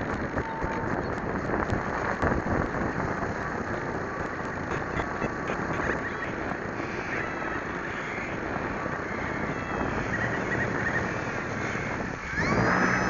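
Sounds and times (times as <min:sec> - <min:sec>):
propeller noise: 0:00.0 - 0:13.0.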